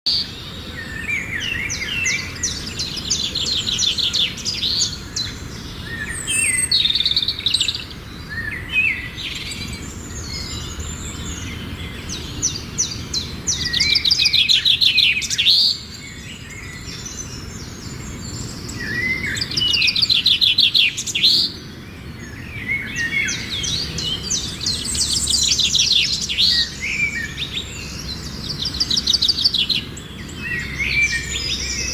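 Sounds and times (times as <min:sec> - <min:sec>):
sparrows chirping: 0:00.1 - 0:31.9.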